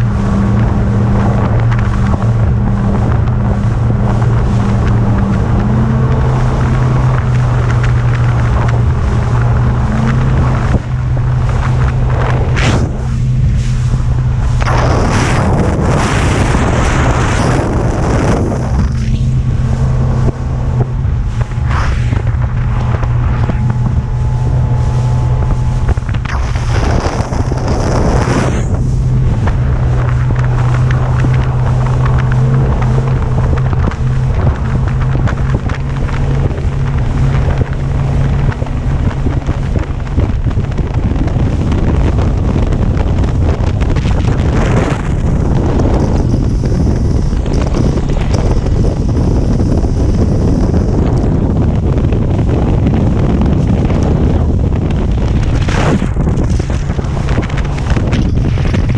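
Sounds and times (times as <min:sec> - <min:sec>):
outboard motor running: 0:00.0 - 0:58.9
rushing water: 0:00.0 - 0:58.9
wind buffeting microphone: 0:00.0 - 0:58.9.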